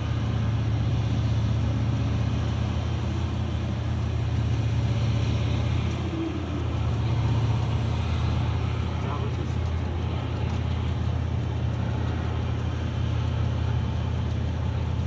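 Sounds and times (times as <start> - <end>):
large diesel engines droning: 0.0 - 15.0.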